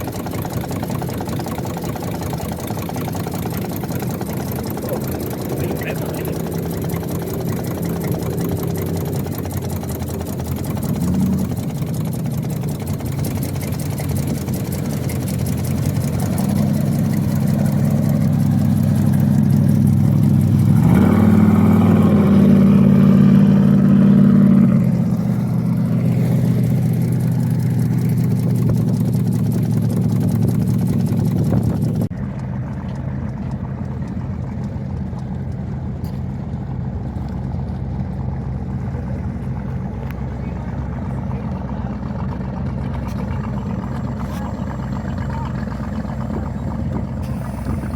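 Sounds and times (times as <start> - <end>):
dull engine sound: 0.0 - 47.9
motorboat engine running: 0.0 - 47.9.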